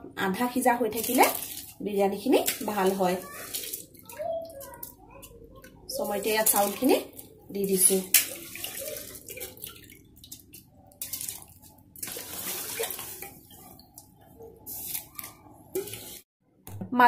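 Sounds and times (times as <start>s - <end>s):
water splashing and trickling: 0.3s - 16.3s.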